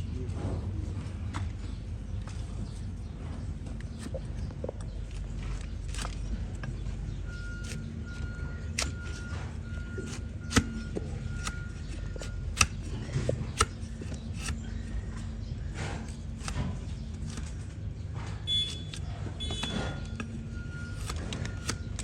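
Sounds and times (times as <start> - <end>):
hoof cracking while being cut: 3.4 - 22.0.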